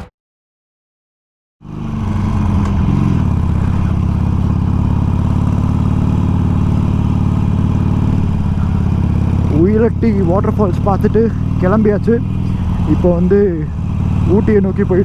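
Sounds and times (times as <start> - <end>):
motorcycle engine running: 1.6 - 15.0.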